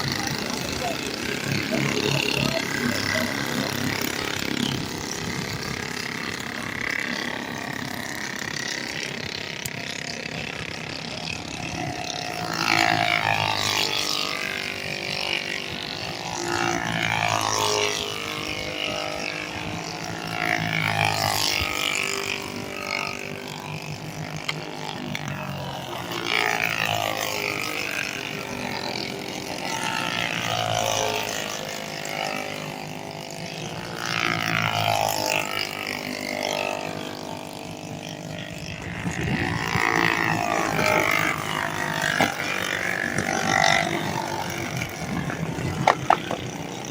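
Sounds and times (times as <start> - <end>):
racing engines passing: 0.0 - 25.3, 26.0 - 46.9.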